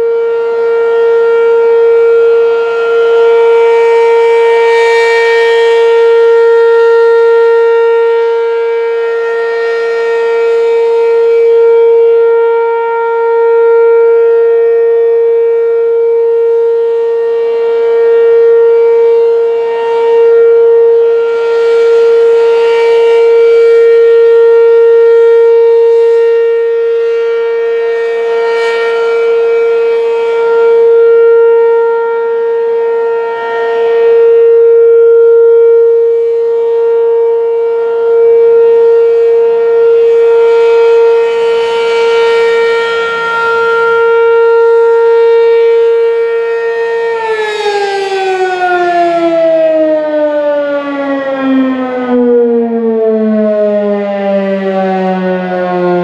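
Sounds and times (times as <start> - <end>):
tornado siren steady tone: 0.0 - 56.0.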